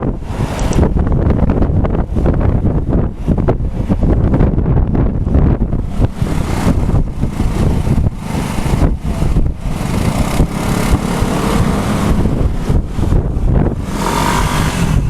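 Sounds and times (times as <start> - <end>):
road traffic: 0.0 - 15.0
strong wind buffeting microphone: 0.0 - 15.0.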